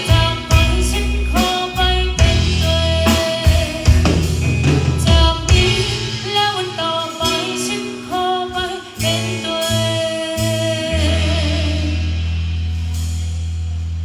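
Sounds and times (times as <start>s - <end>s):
person singing: 0.0s - 12.3s
band playing a song: 0.0s - 13.8s.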